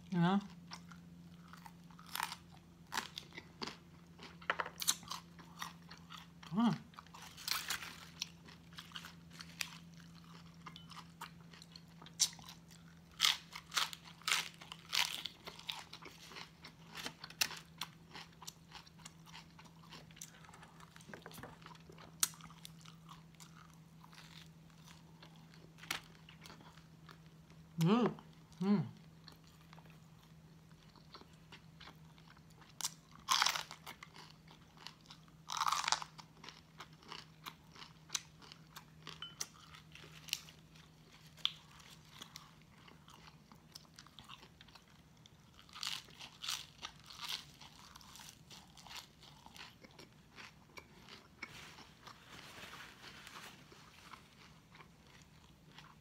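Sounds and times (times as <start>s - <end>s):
crunching and chewing vegetables: 0.0s - 56.0s.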